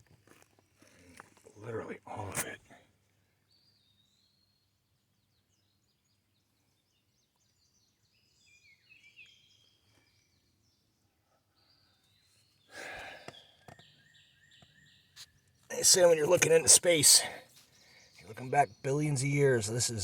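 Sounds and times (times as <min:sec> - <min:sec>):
faint birdsong chirps: 0:00.0 - 0:20.0.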